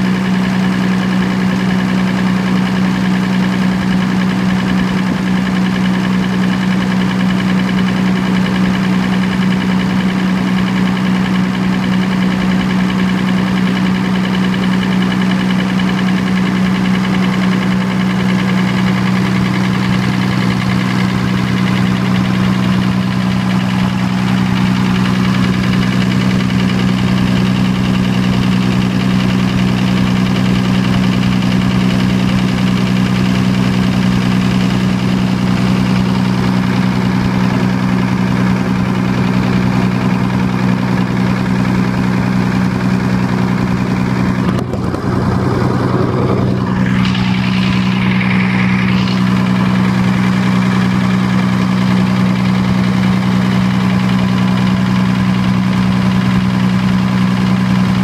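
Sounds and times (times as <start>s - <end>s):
diesel generator engine droning: 0.0s - 58.0s.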